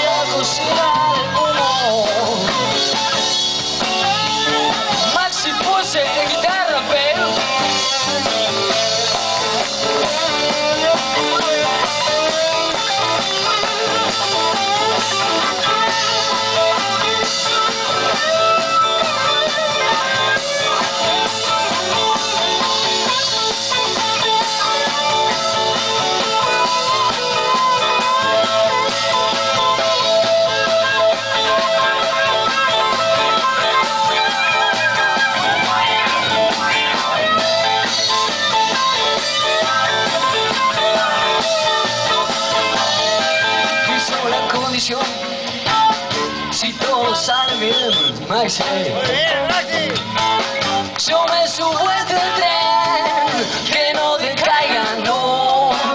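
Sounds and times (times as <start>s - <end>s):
amplified electric guitars: 0.0s - 55.9s
drum kit: 0.0s - 55.9s.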